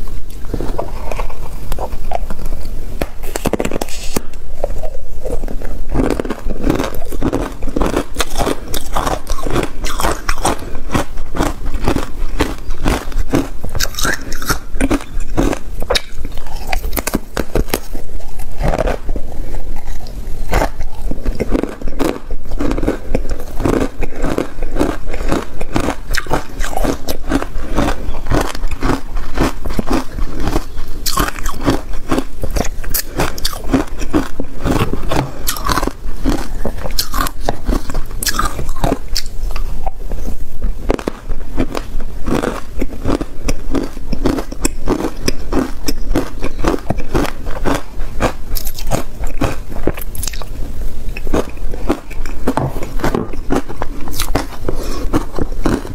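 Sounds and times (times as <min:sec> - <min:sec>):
ice cubes crunching: 0:03.2 - 0:39.7, 0:40.9 - 0:50.5, 0:51.2 - 0:55.9.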